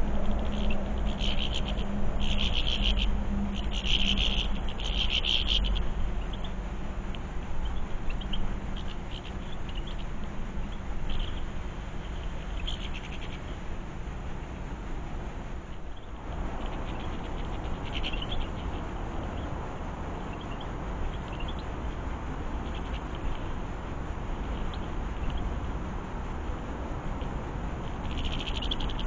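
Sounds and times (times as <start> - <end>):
songbirds trilling: 0.0 - 29.0
steady low hum: 0.0 - 29.0.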